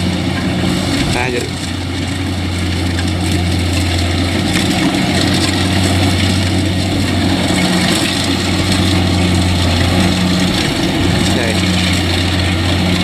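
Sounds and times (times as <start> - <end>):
combine harvester diesel engine: 0.0 - 13.0.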